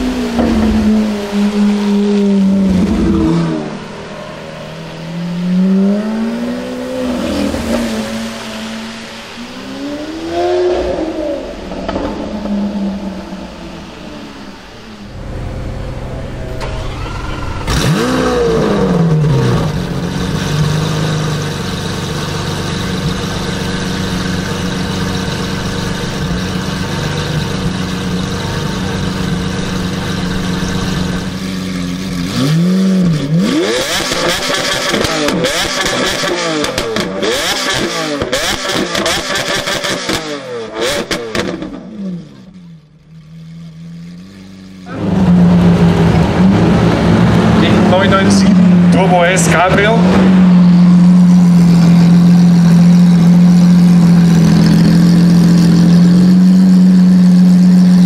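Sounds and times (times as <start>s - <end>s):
sports car engine revving: 0.0s - 58.0s.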